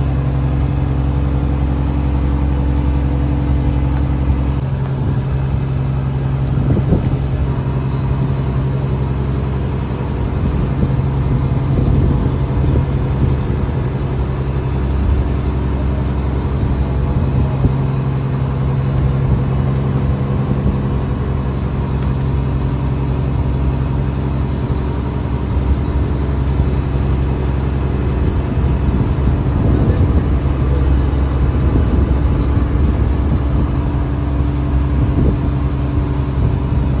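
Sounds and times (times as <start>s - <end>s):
diesel engine humming: 0.0s - 37.0s
thin high whine: 0.0s - 37.0s.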